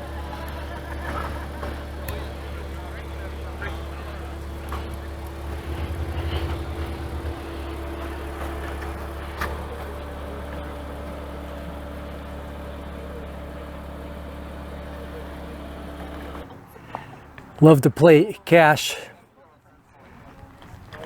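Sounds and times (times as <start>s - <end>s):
engine idling with low hum: 0.0s - 17.5s.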